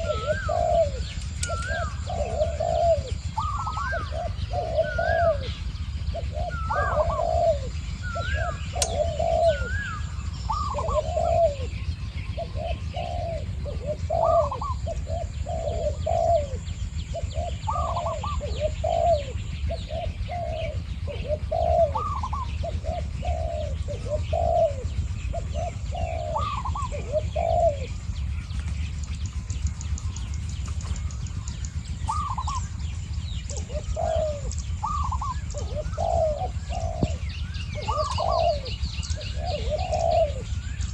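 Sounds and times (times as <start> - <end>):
doves cooing: 0.0 - 40.9
low rumble: 0.0 - 40.9.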